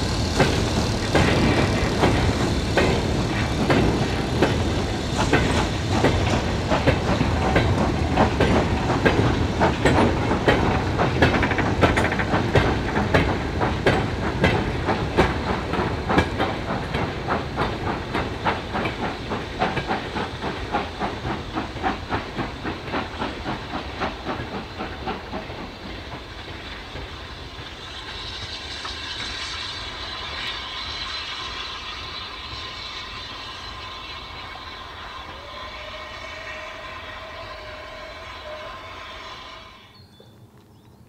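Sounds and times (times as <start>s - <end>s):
steady hiss: 0.0s - 39.8s
steam locomotive chuffing: 0.0s - 40.1s.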